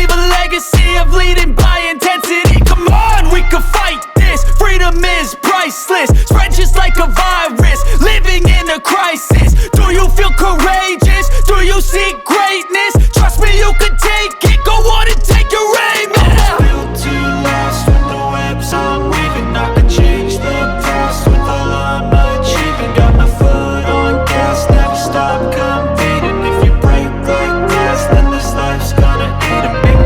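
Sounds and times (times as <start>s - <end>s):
hip hop music with heavy bass: 0.0s - 30.0s.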